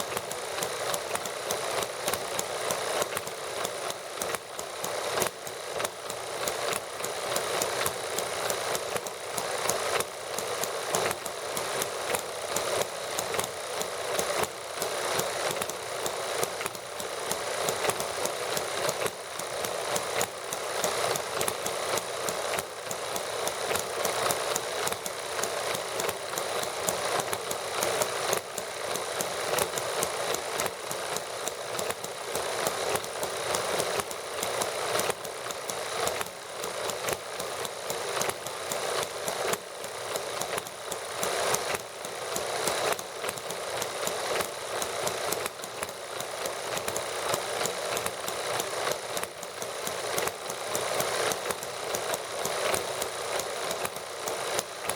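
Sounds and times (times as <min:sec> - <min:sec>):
model engines clattering: 0:00.0 - 0:54.9.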